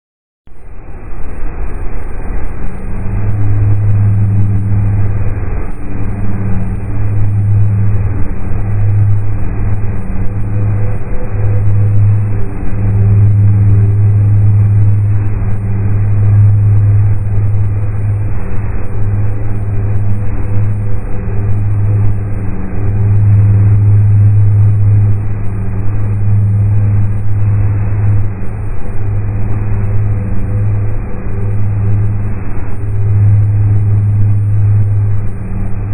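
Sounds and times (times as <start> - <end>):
deep hum: 0.5 - 35.9
low rumble: 0.5 - 35.9.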